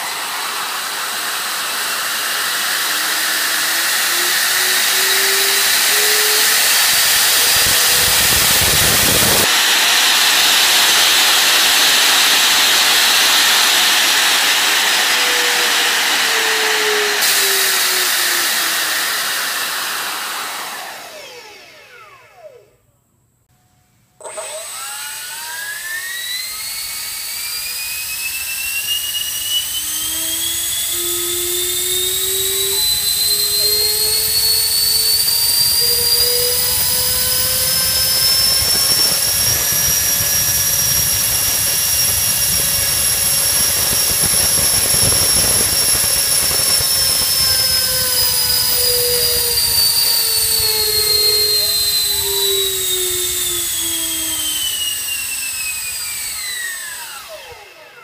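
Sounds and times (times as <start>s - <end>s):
electric ducted fan whining: 0.0s - 58.0s.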